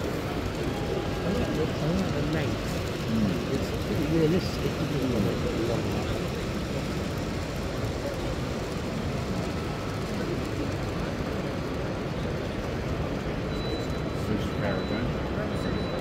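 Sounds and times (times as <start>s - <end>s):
distant voices: 0.0s - 16.0s
low background noise: 0.0s - 16.0s.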